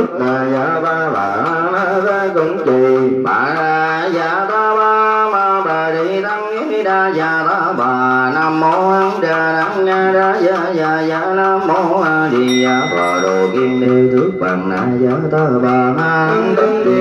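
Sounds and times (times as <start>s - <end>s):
monk chanting a sung melody: 0.0s - 17.0s.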